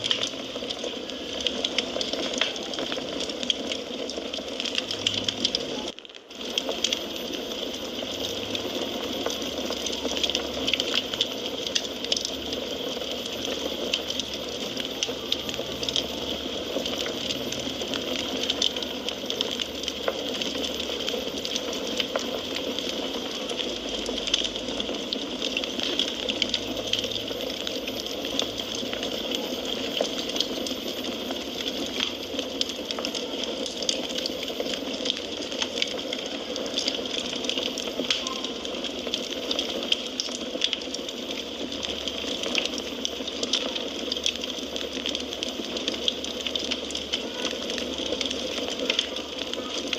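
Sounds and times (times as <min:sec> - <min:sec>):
fire hissing: 0:00.0 - 0:49.9
wood crackling and popping: 0:00.0 - 0:49.9.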